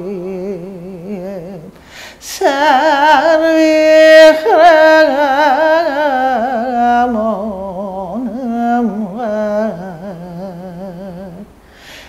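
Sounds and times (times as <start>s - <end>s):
woman singing unaccompanied: 0.0s - 11.6s.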